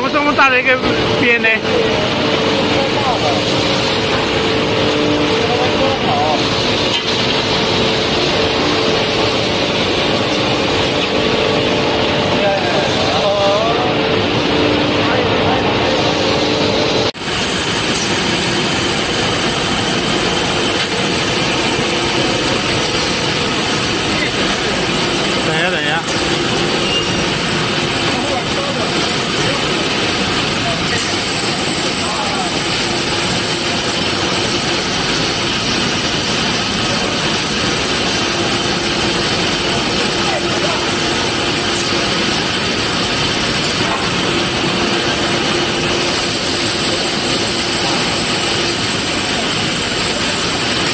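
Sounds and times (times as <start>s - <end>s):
grinding machine whine: 0.0s - 50.9s.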